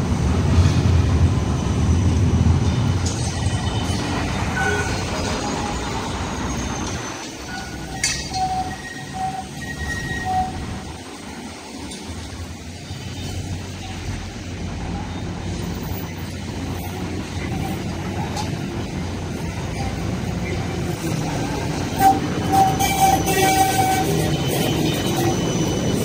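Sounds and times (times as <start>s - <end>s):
street traffic: 0.0s - 26.0s
tram rumble and hum: 0.0s - 26.0s.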